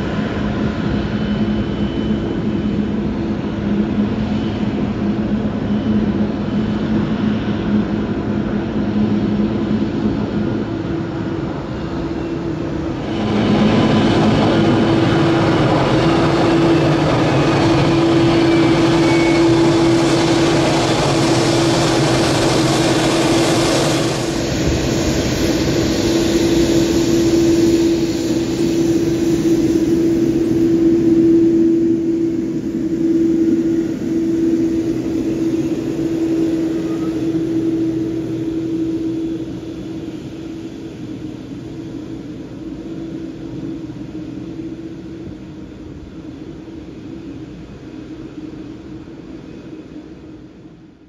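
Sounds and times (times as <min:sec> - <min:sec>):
jet engines idling: 0:00.0 - 0:51.0.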